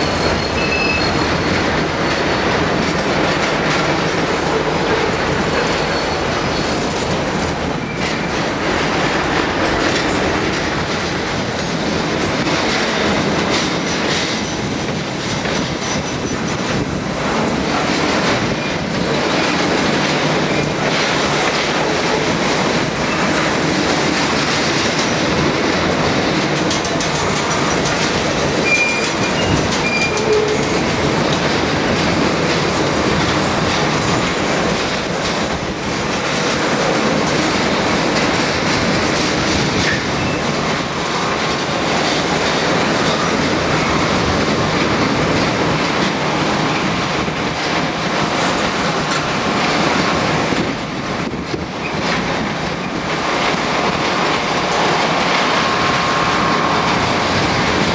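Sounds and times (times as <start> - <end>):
train wheels rumbling and clattering: 0.0 - 57.9.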